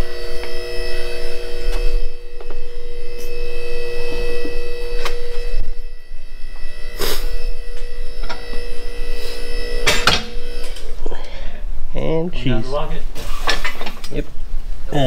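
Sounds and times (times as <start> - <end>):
electric hum: 0.0 - 15.0.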